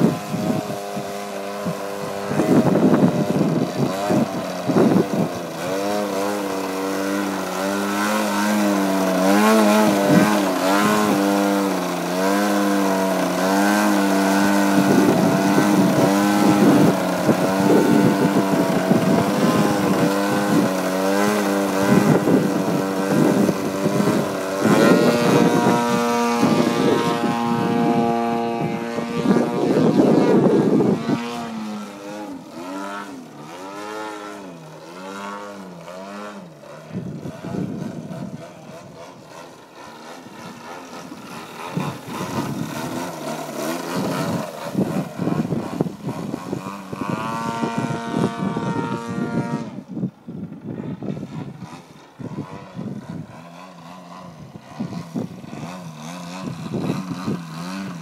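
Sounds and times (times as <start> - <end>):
model airplane engine and propeller: 0.0 - 58.0.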